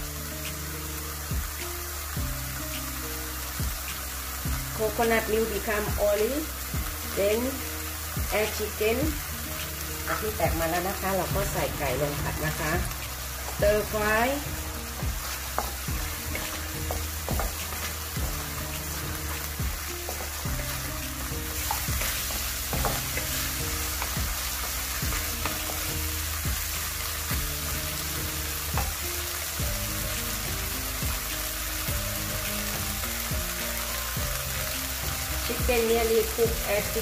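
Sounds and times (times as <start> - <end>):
chicken sizzling in a wok: 0.0 - 37.0.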